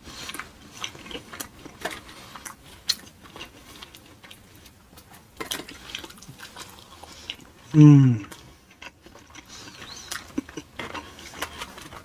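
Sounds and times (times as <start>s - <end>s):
close chewing with wet mouth clicks: 0.0s - 12.0s.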